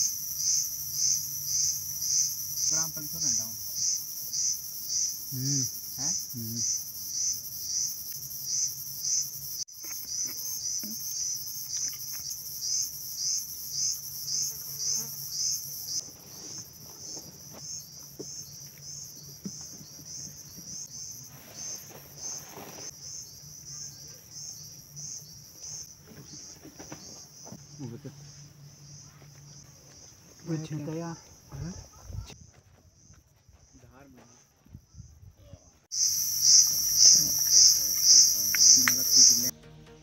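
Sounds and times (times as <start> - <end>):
insects pulsing chirr: 0.0 - 39.5.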